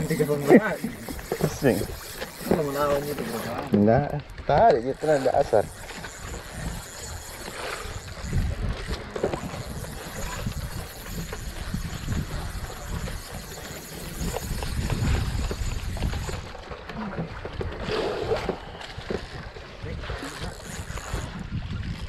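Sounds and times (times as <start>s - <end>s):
fishing reel clicking: 0.0s - 16.7s, 20.2s - 22.0s
wind buffeting microphone: 0.0s - 22.0s.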